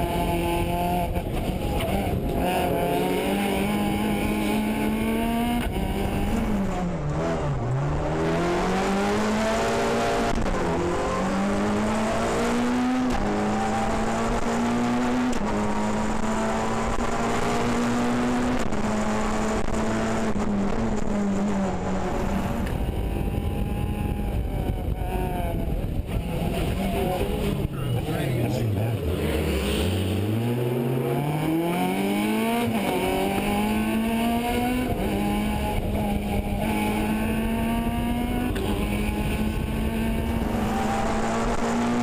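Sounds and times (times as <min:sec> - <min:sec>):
rally car engine accelerating: 0:00.0 - 0:42.0.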